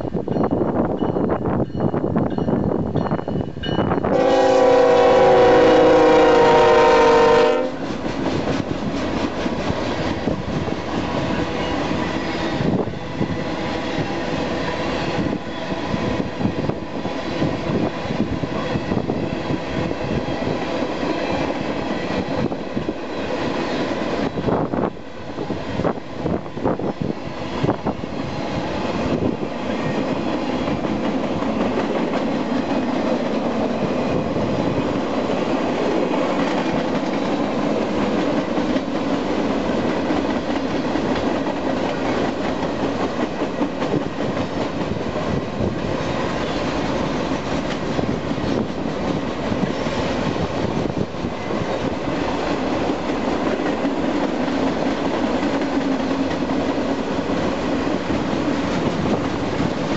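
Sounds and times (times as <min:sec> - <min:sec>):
train wheels clattering on rails: 0:07.6 - 0:24.8, 0:25.4 - 0:59.9.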